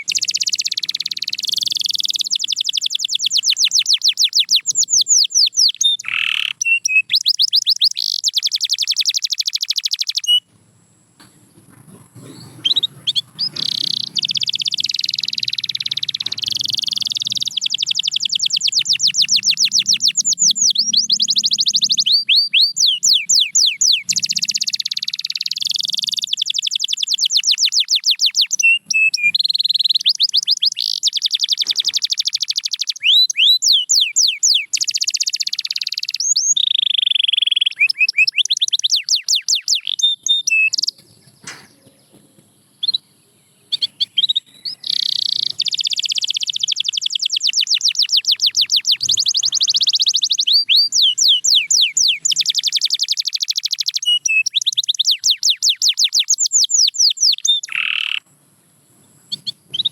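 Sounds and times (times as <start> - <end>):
canary singing trills: 0.0 - 58.4, 59.0 - 59.9.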